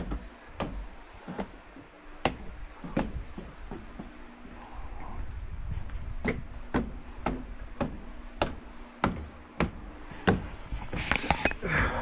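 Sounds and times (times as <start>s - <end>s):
footsteps on wooden walkway: 0.0s - 12.0s.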